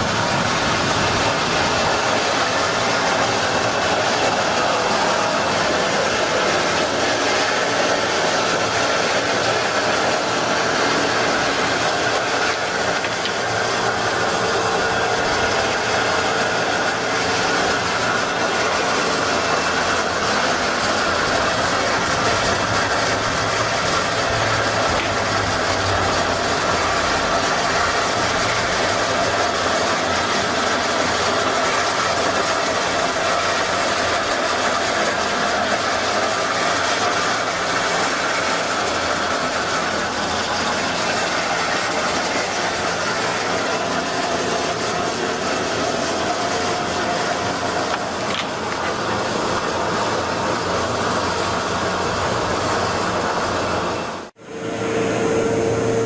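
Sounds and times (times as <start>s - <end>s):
car engine idling: 0.0s - 54.6s.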